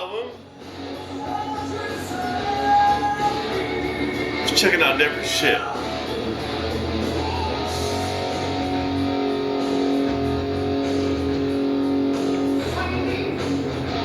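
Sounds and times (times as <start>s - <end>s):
guitar background music: 0.0s - 14.0s.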